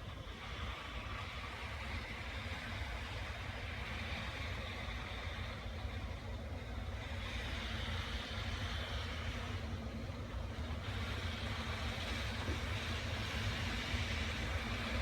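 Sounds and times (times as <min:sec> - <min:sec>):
electric locomotive running: 0:00.0 - 0:15.0.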